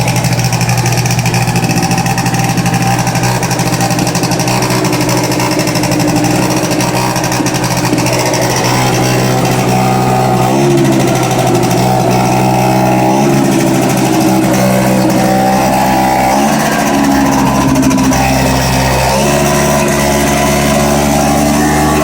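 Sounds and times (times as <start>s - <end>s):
scooter two-stroke engine running: 0.0s - 22.0s.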